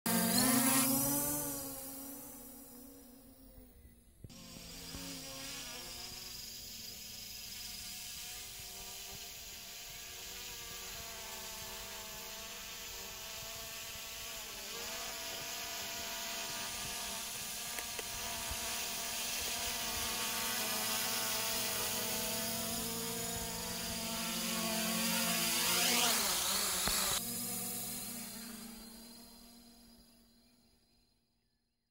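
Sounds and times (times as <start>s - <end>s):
drone propellers buzzing: 0.1s - 30.1s.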